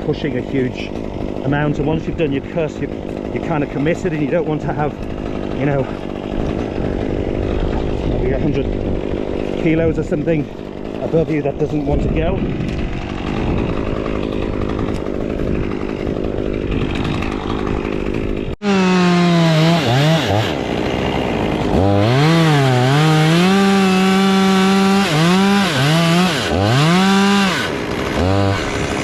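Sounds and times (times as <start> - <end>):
chainsaw cutting through wood: 0.0 - 29.0
chainsaw engine revving: 0.0 - 29.0.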